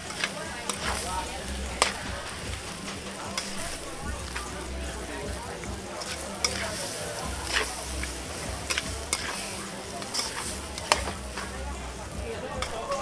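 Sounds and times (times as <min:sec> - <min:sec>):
spatula clanking against wok: 0:00.0 - 0:04.6, 0:05.6 - 0:13.0
metal spatula scraping wok: 0:00.0 - 0:13.0
rice sizzling in a wok: 0:00.0 - 0:13.0.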